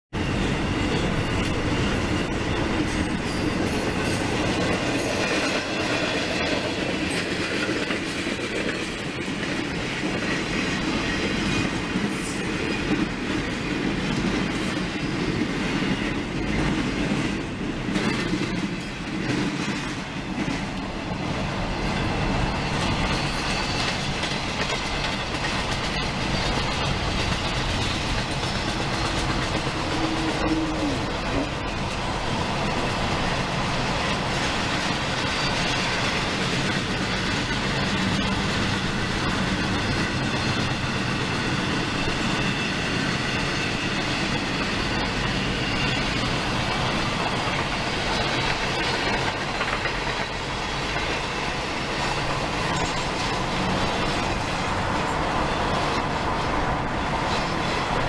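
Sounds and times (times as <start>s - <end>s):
freight train rolling past: 0.1s - 58.0s
steel wheels rumbling on rails: 0.1s - 58.0s.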